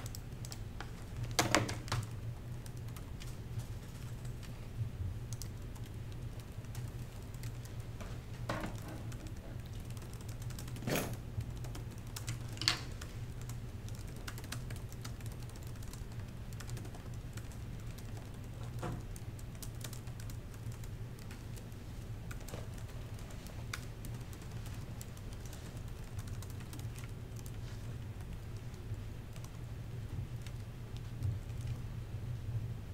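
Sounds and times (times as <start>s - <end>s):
laptop keyboard typing: 0.0s - 4.6s, 5.2s - 8.0s, 8.7s - 29.7s, 30.3s - 31.8s.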